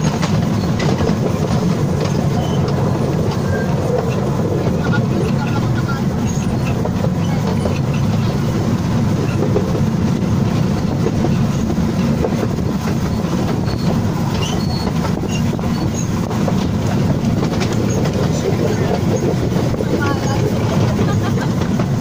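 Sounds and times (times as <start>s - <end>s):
high wheel squeaks: 0.0s - 21.8s
train wheels rumbling on rails: 0.0s - 22.0s.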